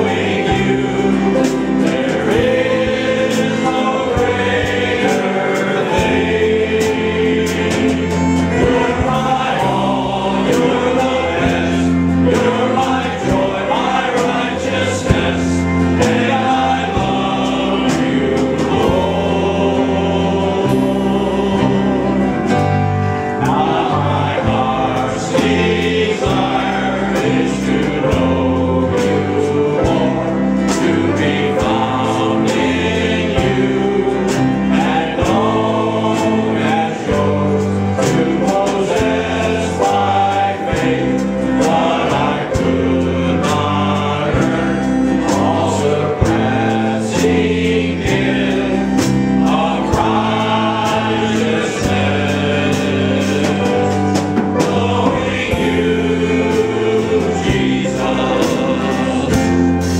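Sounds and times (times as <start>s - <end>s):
men's choir singing a hymn: 0.0s - 59.9s.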